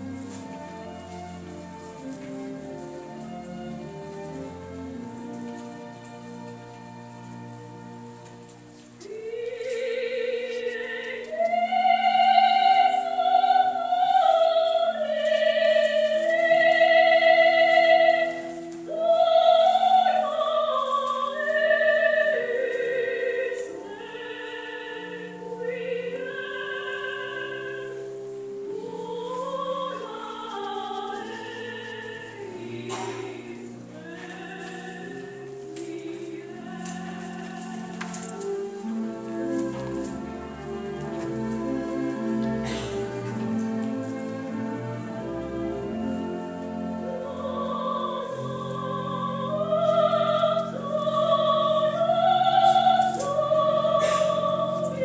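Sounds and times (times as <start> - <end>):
sustained accompaniment chords: 0.0 - 55.0
operatic soprano singing: 9.0 - 43.2, 44.1 - 55.0.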